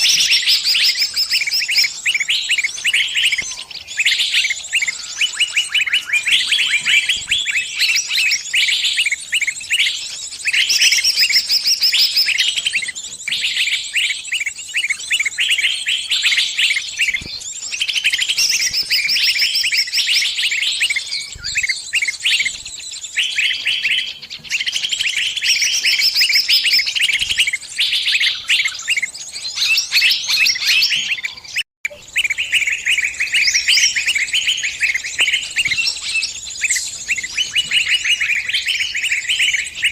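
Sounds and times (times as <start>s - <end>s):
small bird chirping and trilling: 0.0s - 39.9s.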